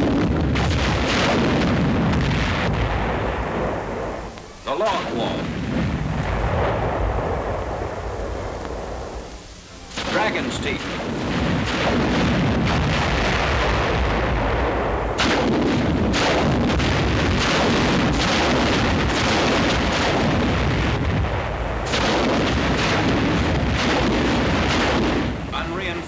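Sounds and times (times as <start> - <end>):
heavy rumble of blasts: 0.0 - 26.0
sharp explosion blasts: 0.0 - 26.0.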